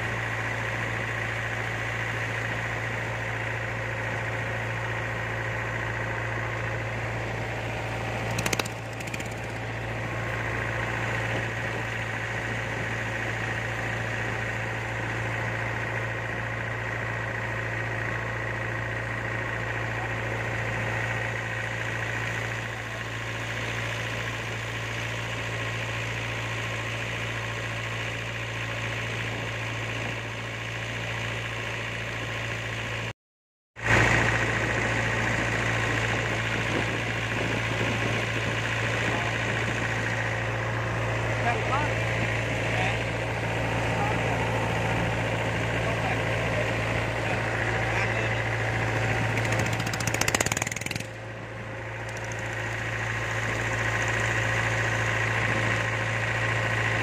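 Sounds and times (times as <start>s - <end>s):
motorboat engine droning: 0.0s - 33.1s, 33.8s - 57.0s.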